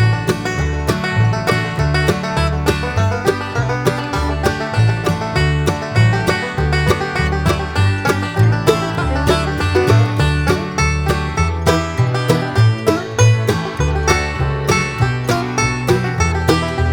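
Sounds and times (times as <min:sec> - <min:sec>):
bluegrass instrumental music: 0:00.0 - 0:16.9.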